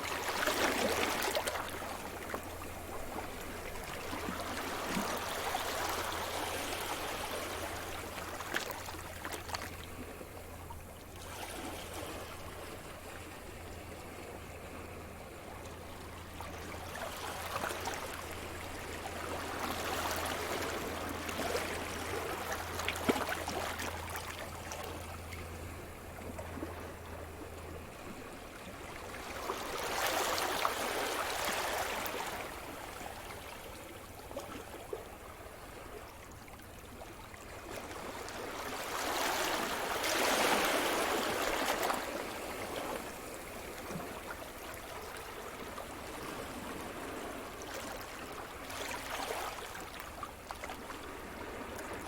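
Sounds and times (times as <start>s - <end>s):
sea waves breaking on shore: 0.0s - 52.0s.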